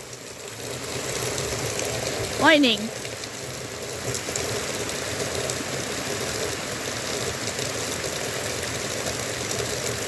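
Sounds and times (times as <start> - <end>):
heavy rain downpour: 0.0 - 10.0
raindrops ticking close: 0.0 - 10.0.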